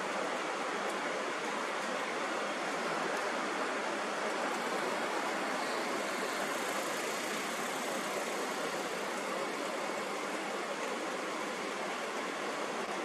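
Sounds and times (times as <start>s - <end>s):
steady hiss of noise: 0.0s - 13.0s.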